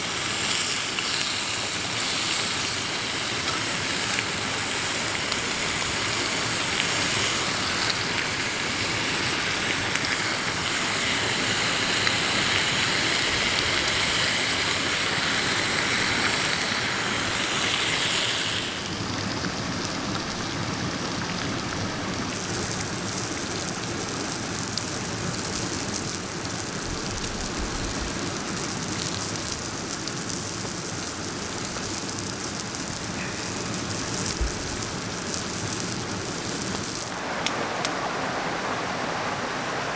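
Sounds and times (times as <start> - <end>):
running water rushing: 0.0 - 23.1, 26.3 - 28.6, 32.8 - 39.9.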